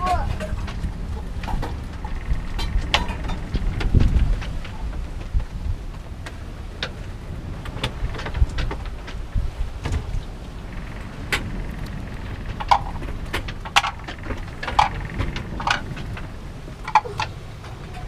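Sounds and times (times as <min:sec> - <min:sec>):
gear knocking and clattering: 0:00.0 - 0:18.0
wind and water rushing: 0:00.0 - 0:18.0.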